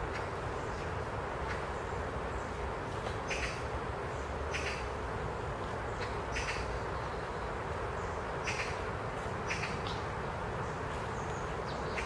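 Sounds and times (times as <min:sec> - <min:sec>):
wind in trees: 0:00.0 - 0:12.0.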